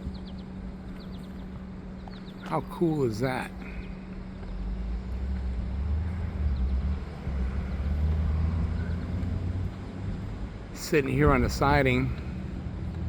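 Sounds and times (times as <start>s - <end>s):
faint hum: 0.0s - 13.0s
low engine rumble: 0.0s - 13.0s.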